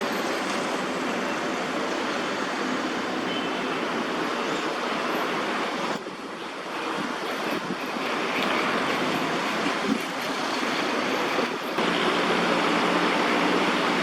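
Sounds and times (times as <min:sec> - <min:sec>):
distant city traffic hiss: 0:00.0 - 0:14.0.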